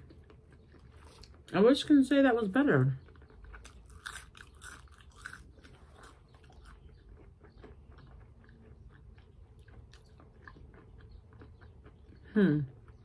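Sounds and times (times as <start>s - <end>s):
person chewing food: 0.0s - 1.5s, 3.0s - 13.0s.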